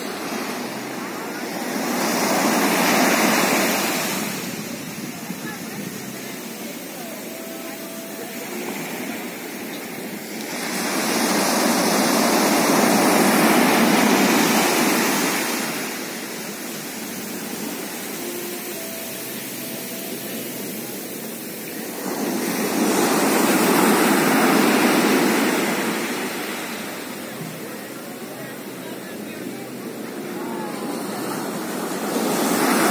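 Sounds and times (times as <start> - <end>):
surf breaking on shore: 0.0 - 32.9.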